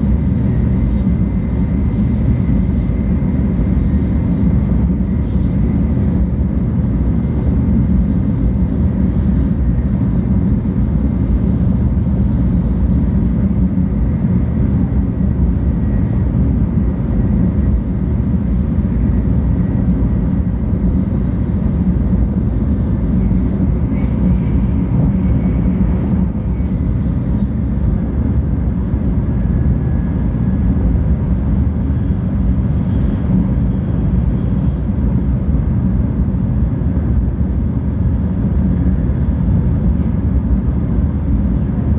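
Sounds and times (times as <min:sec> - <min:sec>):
train rumble inside cabin: 0:00.0 - 0:41.9.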